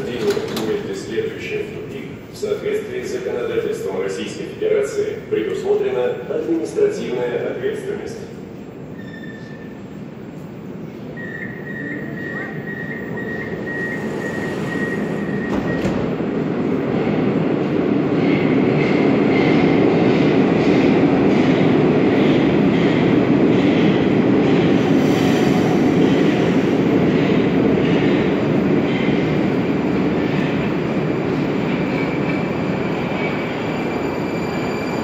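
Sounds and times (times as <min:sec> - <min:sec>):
train running noise: 0:00.0 - 0:35.0.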